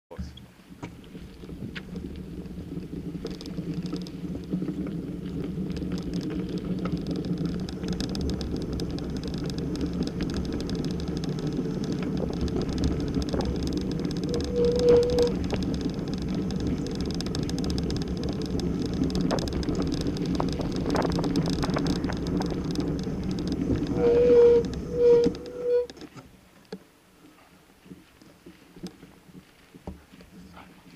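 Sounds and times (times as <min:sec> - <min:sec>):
small knocks and rattles: 0:00.2 - 0:26.9
scooter wheels rumbling on path: 0:00.2 - 0:30.9.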